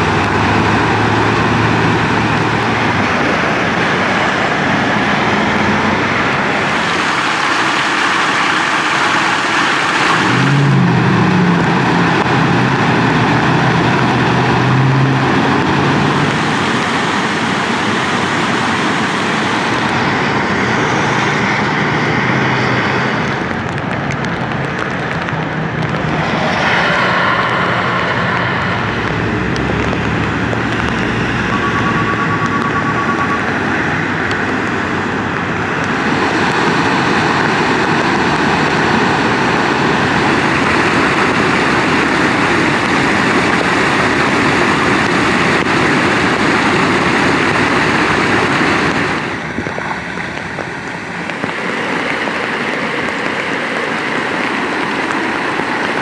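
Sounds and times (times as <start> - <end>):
car tyres splashing through water: 0.0 - 56.0
water rushing over rocks: 0.0 - 56.0.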